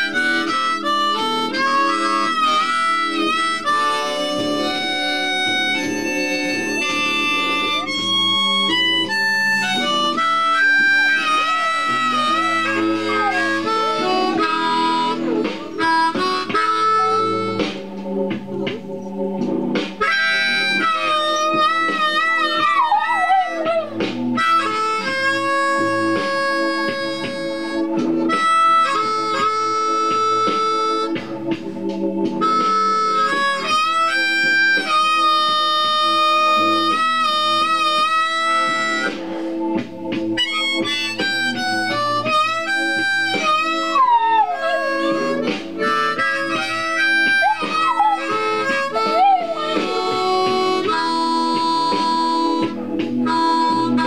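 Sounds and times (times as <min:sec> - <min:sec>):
backing track: 0:00.0 - 0:54.0
harmonica playing blues: 0:00.0 - 0:54.0.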